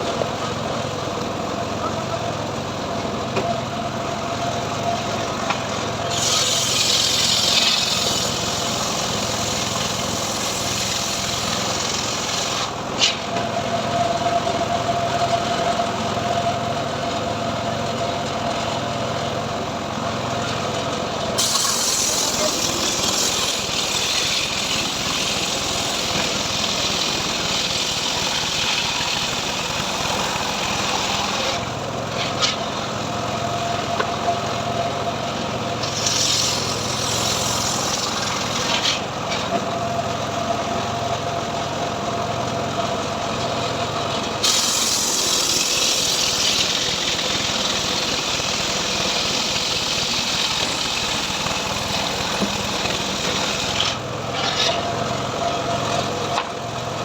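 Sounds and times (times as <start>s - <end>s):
engine-driven sawmill cutting wood: 0.0s - 57.0s.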